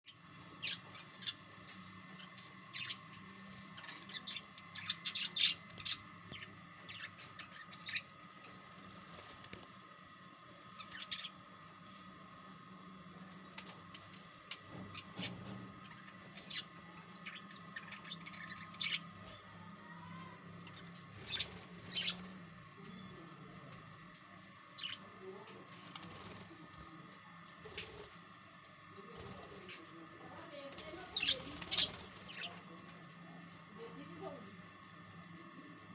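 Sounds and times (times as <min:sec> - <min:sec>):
faint steady hum: 0:00.1 - 0:35.9.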